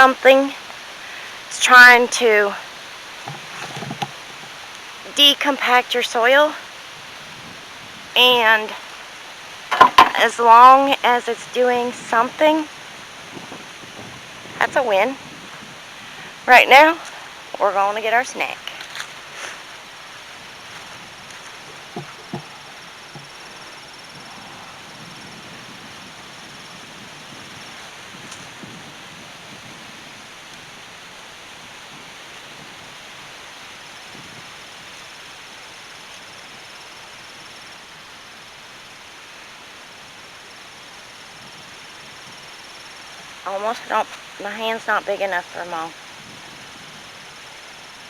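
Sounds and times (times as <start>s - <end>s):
wind hissing: 0.0s - 48.0s.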